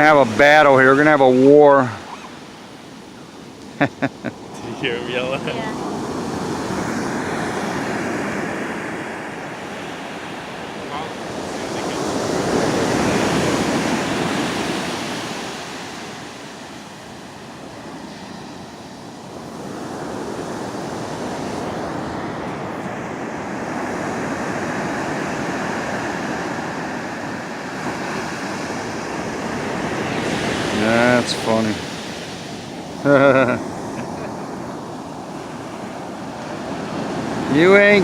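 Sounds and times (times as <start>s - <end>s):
ocean surf washing in: 0.0s - 38.0s.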